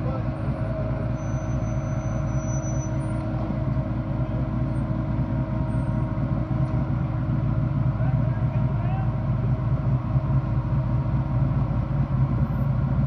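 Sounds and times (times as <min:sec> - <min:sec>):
car engine droning steadily: 0:00.0 - 0:13.0.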